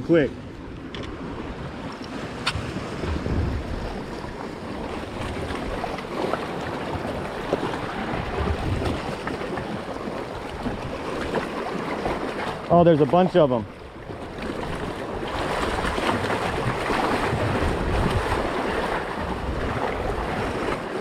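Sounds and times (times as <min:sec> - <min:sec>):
wind buffeting microphone: 0:00.0 - 0:12.7, 0:13.9 - 0:21.0
water sloshing against boat: 0:00.0 - 0:21.0.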